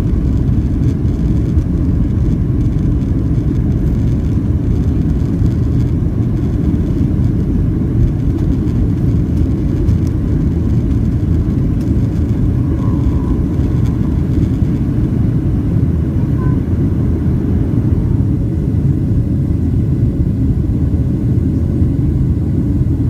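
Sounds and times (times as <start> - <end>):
airplane engines rumbling: 0.0 - 23.0.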